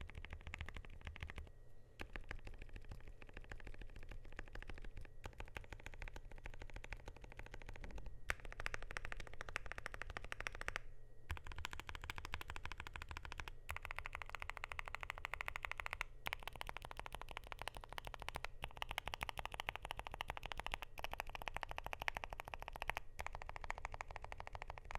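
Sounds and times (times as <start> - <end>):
fast typing on keyboard: 0.0 - 24.9.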